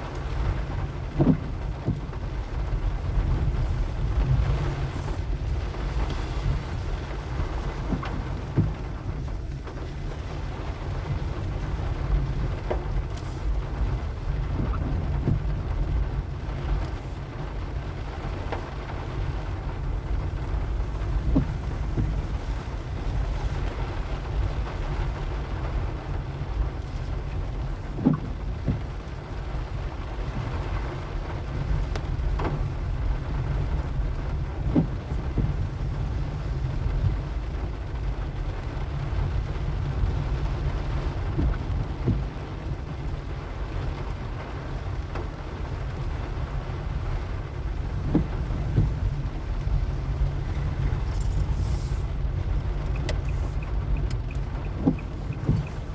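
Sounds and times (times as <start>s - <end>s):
car engine and tyres rumbling: 0.0s - 55.9s.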